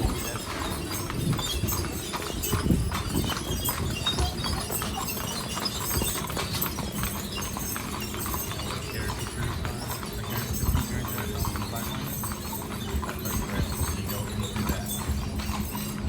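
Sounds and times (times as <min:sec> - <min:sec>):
horse hooves clip-clopping: 0:00.0 - 0:16.0
low rumble of stagecoach: 0:00.0 - 0:16.0.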